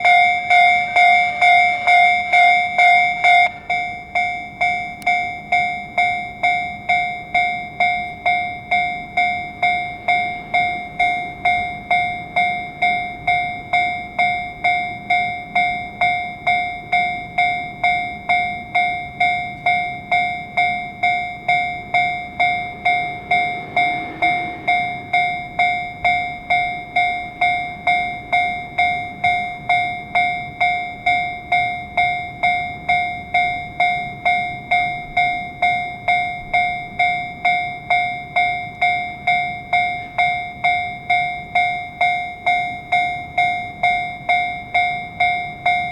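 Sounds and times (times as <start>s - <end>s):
level crossing warning bell: 0.0s - 45.9s
second louder crossing bell: 0.0s - 45.9s.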